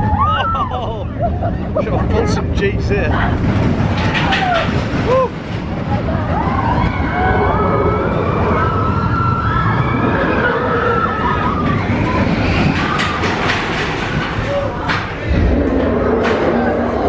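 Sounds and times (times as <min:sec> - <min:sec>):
people screaming and whooping: 0:00.0 - 0:01.8, 0:04.0 - 0:17.0
low rumble of wind and ride: 0:00.0 - 0:17.0.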